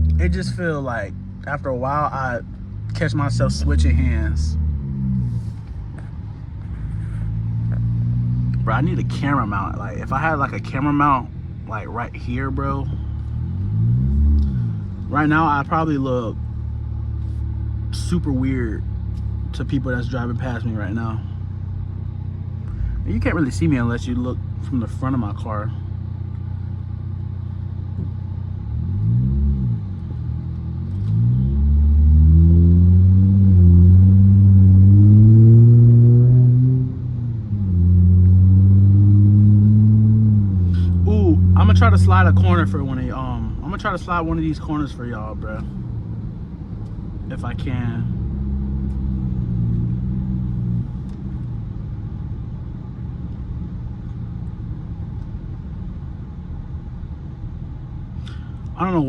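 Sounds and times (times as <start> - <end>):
car engine revving and accelerating: 0.0 - 25.6, 27.3 - 55.2.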